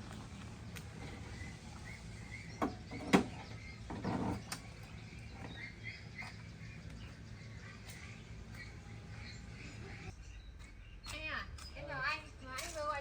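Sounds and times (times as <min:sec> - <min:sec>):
birds chirping faintly: 0:00.0 - 0:13.0
outdoor background noise: 0:00.0 - 0:13.0.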